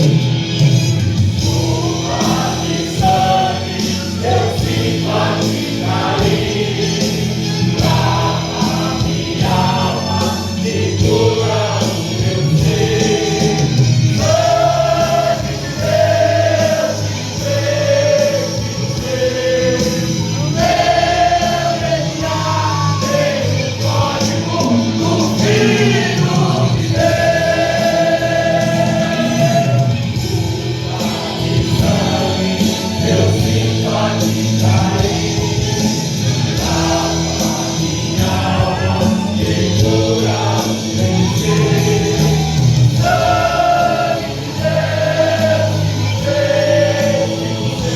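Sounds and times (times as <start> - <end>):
choir singing gospel: 0.0 - 47.9
instrumental backing: 0.0 - 47.9.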